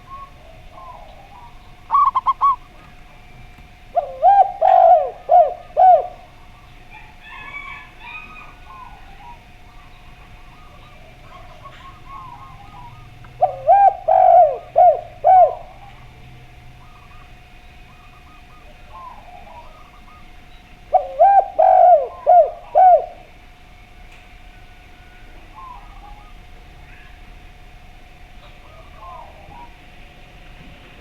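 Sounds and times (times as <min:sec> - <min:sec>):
birds chirping: 0:00.0 - 0:31.0
dove cooing: 0:00.0 - 0:31.0.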